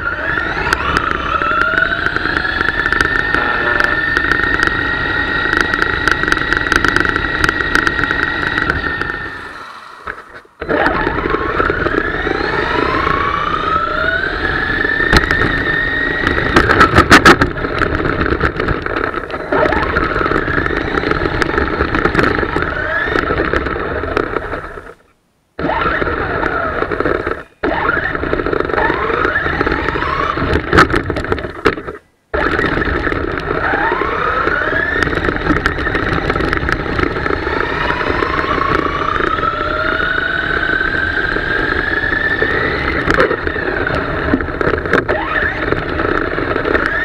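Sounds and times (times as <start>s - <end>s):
toy truck electric motor whining: 0.0s - 25.0s, 25.6s - 47.0s.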